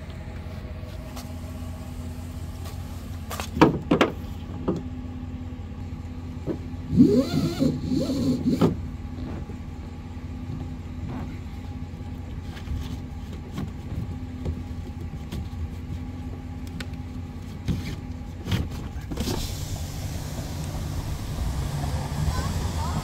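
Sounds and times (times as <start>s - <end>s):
road and wind noise: 0.0s - 23.0s
vehicle engine idling: 0.0s - 23.0s.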